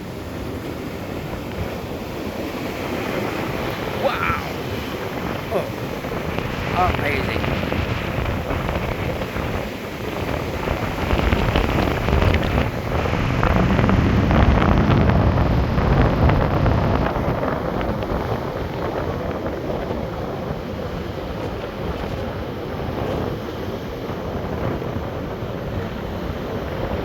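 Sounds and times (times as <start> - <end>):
ocean waves breaking: 0.0 - 27.0
wind buffeting microphone: 0.0 - 27.0.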